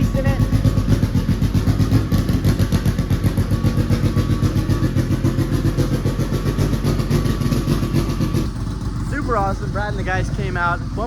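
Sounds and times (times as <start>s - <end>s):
car engine idling unevenly: 0.0s - 11.0s.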